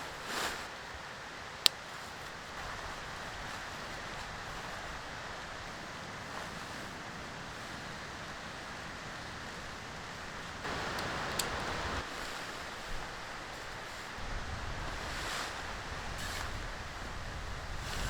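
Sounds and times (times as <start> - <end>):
rustle: 0.0 - 18.0
sea surf: 0.0 - 18.0
wind: 0.0 - 18.0.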